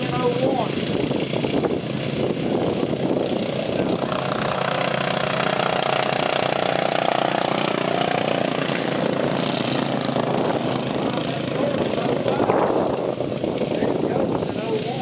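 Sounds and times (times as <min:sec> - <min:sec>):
lawn mower engine passing by: 0:00.0 - 0:15.0.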